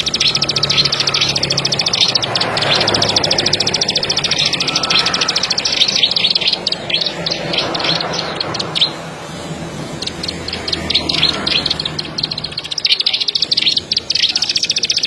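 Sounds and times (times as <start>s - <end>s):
bird singing clicking notes: 0.0s - 9.0s, 9.9s - 15.0s.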